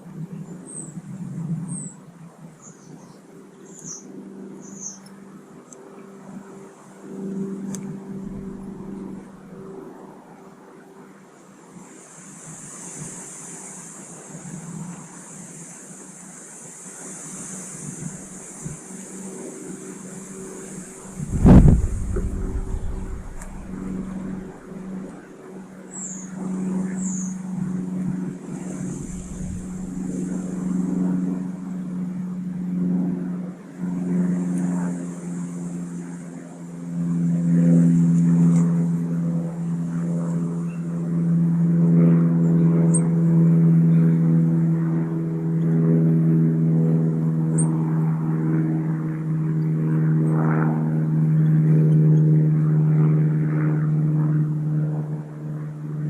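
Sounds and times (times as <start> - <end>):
droning engine hum: 0.0 - 56.0.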